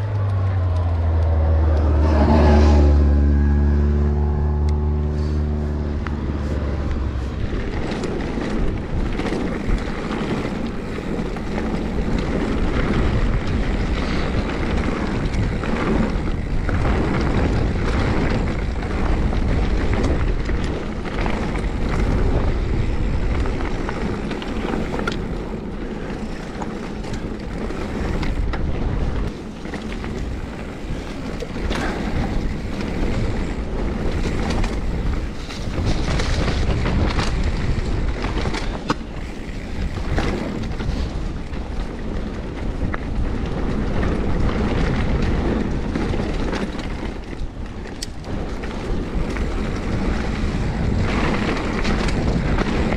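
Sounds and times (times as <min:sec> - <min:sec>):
tyres rumbling on dirt: 0:00.0 - 0:52.9
wind buffeting microphone: 0:00.0 - 0:52.9
bike clicks and knocks: 0:04.6 - 0:52.9.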